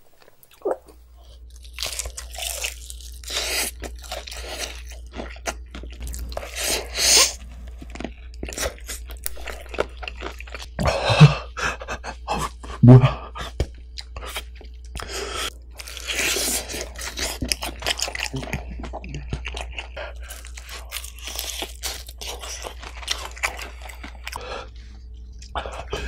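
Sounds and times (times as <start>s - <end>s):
crunchy chewing: 0.2s - 10.7s, 14.0s - 26.0s.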